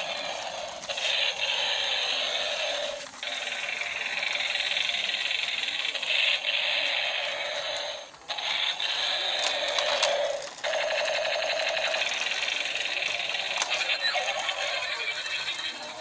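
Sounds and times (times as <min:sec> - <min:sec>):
electronic toy sound effects: 0:00.0 - 0:16.0
toy gear motor whirring and rattling: 0:00.0 - 0:16.0.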